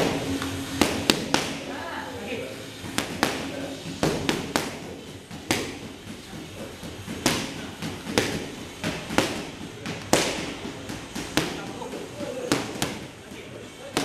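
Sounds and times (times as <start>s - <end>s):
boxing gloves hitting mitts: 0.8s - 1.6s, 2.9s - 14.0s.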